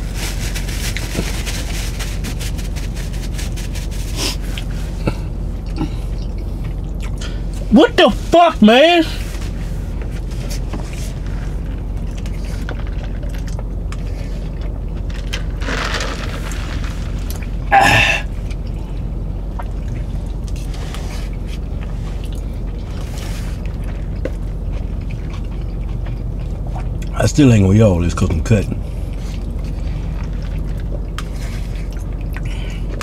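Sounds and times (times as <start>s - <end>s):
car cabin hum: 0.0s - 33.0s.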